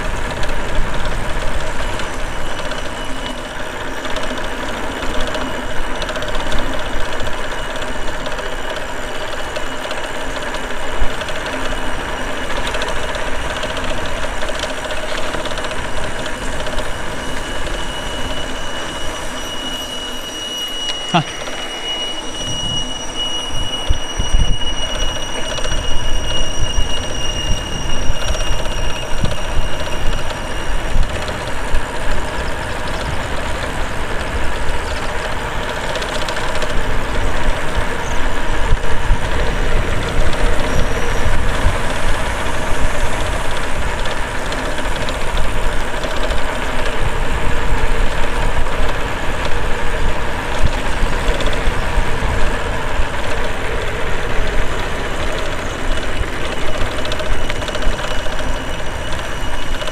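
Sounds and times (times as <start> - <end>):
steady high squeal: 0.0 - 59.9.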